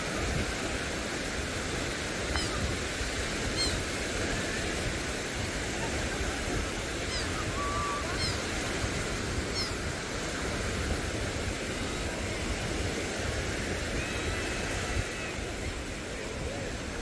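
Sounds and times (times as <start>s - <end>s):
waves washing on shore: 0.0s - 17.0s.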